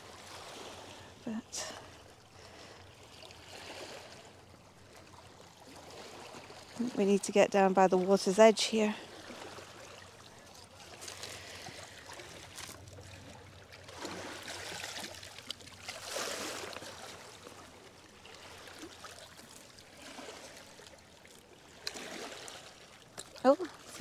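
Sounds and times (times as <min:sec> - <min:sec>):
waves lapping over rocks: 0:00.0 - 0:24.0.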